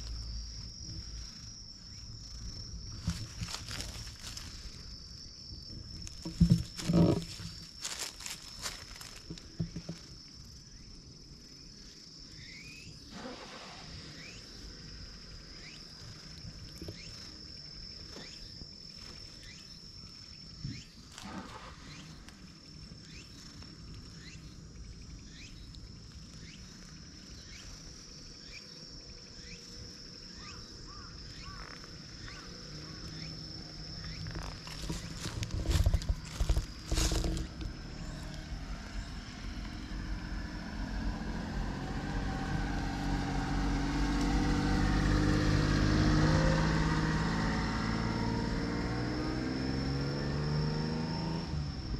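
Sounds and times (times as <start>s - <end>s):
high-pitched insect drone: 0.0s - 51.9s.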